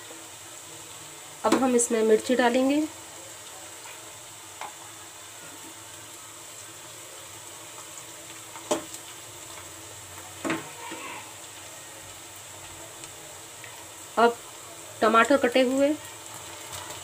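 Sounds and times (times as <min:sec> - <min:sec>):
onions and chillies sizzling in oil: 0:00.0 - 0:17.0.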